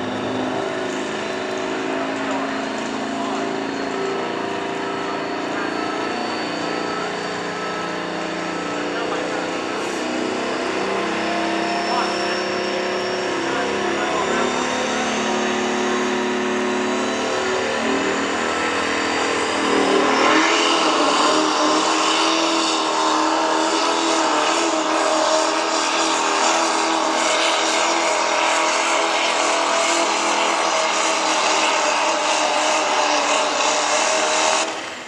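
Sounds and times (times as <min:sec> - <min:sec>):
diesel truck engine under throttle: 0:00.0 - 0:35.0
turbo whistle: 0:00.0 - 0:35.0.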